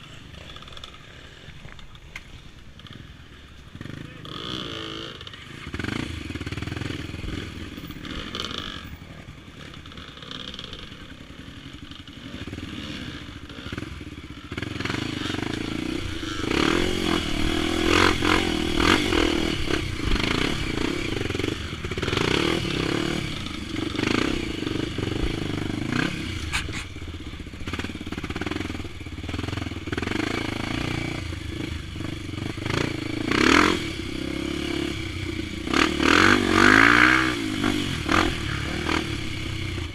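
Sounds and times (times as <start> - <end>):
dirt bike engine revving: 3.7 - 39.9.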